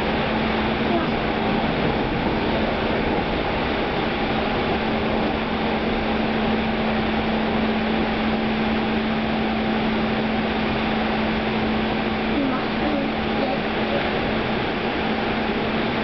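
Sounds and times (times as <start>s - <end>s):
constant hum: 0.0s - 16.0s.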